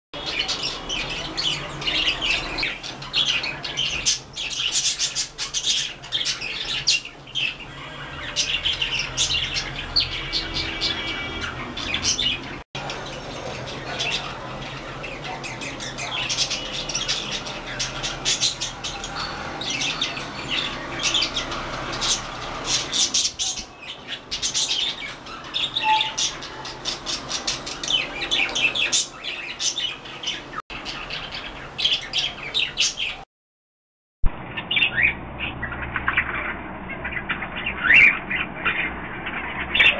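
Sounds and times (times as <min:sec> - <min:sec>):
budgerigars chattering: 0:00.2 - 0:33.2, 0:34.5 - 0:39.9.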